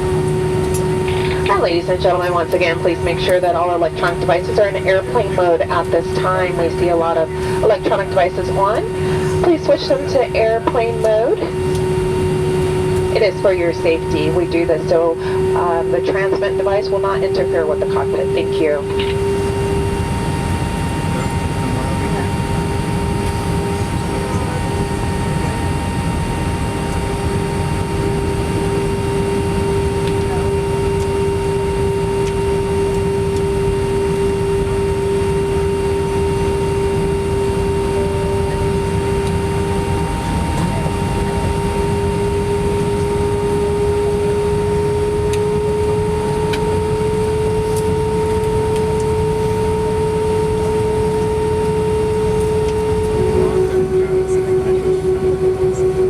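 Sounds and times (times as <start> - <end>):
airliner cabin rumble: 0.0 - 56.0
steady engine whine: 0.0 - 56.0.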